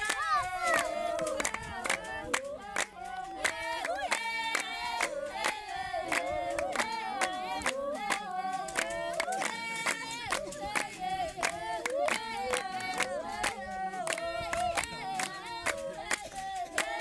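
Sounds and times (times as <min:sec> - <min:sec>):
group of people singing: 0:00.0 - 0:17.0
rhythmic hand clapping: 0:00.0 - 0:17.0.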